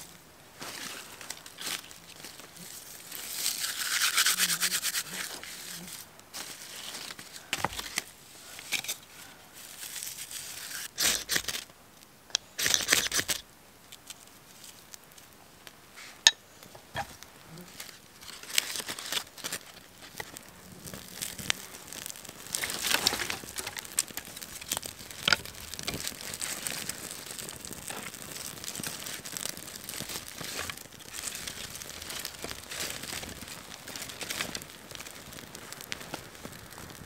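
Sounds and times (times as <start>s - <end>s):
dry bark rustling: 0.0s - 37.0s
kindling fire crackling: 0.0s - 37.0s.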